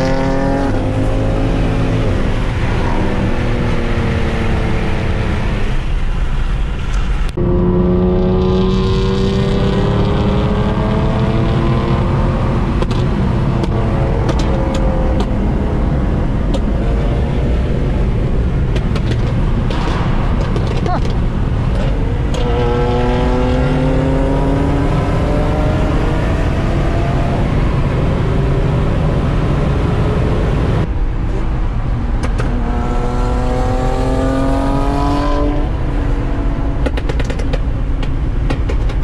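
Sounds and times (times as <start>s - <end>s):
car engine accelerating: 0.0s - 38.5s.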